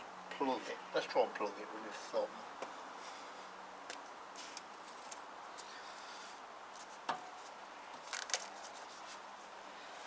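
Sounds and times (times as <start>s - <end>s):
low steady hiss: 0.0s - 10.0s.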